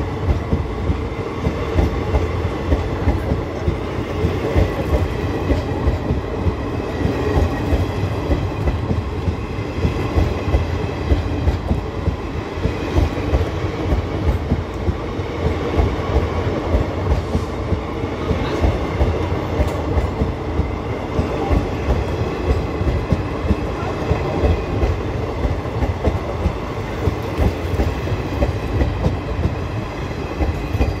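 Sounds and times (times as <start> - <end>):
train wheels clattering: 0.2 - 31.0.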